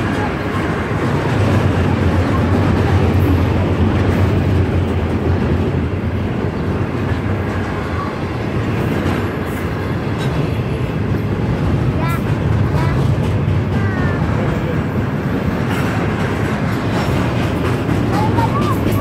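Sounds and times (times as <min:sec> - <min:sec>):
steel wheels rumbling on rails: 0:00.0 - 0:19.0.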